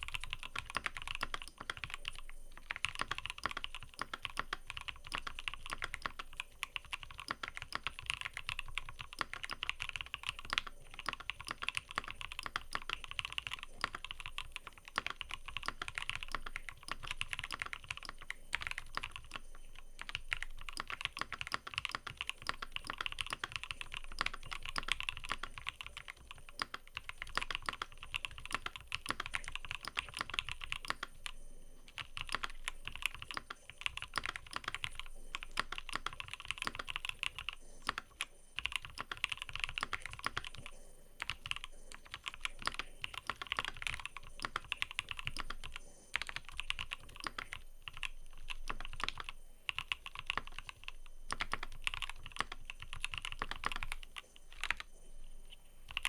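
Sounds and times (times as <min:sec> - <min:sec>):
mechanical keyboard typing: 0:00.0 - 0:54.9.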